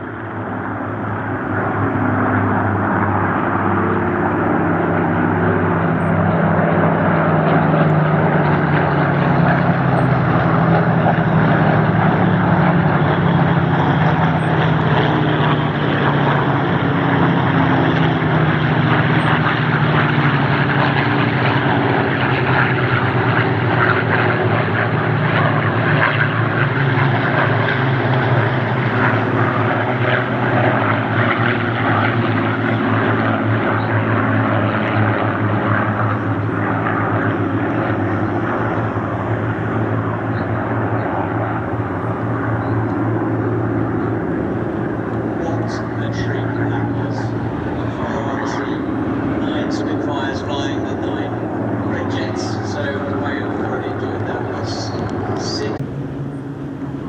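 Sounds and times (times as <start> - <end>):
piston aircraft engines flying past: 0.0 - 57.0.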